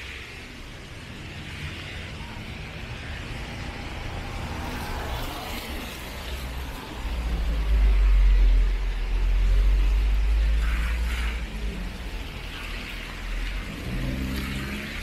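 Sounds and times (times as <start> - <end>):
car tyre hiss on wet road: 0.0 - 15.0.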